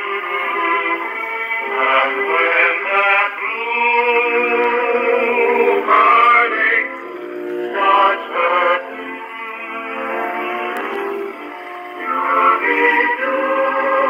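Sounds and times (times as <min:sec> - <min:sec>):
phonograph playing singing: 0:00.0 - 0:14.0.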